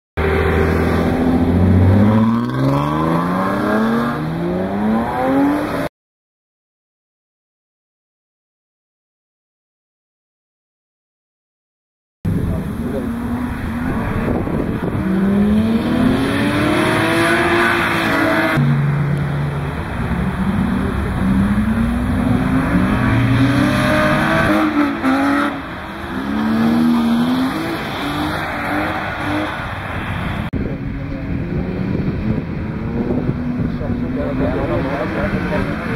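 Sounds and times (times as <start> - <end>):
vehicle engine accelerating: 0.2 - 5.9, 12.3 - 35.9.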